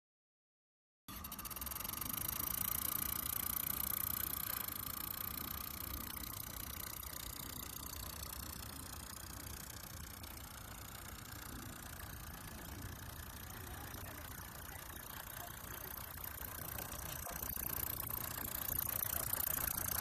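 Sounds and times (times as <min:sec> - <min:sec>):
mini steam engine ticking: 0:01.1 - 0:20.0.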